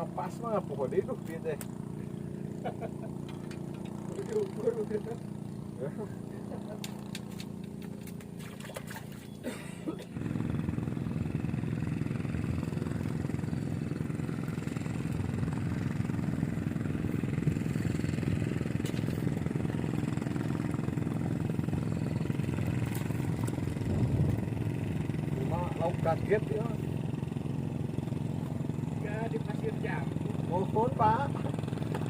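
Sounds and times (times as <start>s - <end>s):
engine starting and running: 0.0s - 32.0s.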